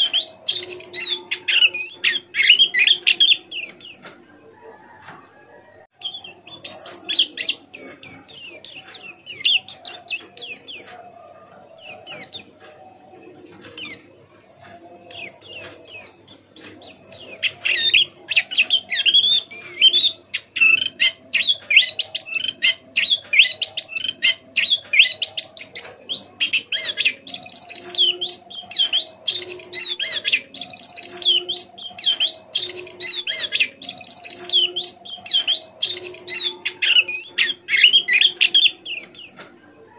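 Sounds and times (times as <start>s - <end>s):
bird twittering chirps and trills: 0.0s - 4.2s, 6.0s - 12.8s, 13.6s - 39.5s.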